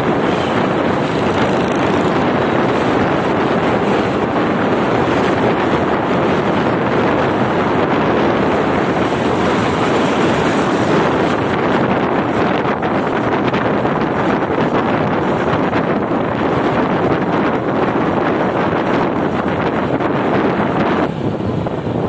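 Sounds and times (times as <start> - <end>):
motorcycle engine: 0.0 - 22.0
road noise: 0.0 - 22.0
wind rushing over microphone: 0.0 - 22.0.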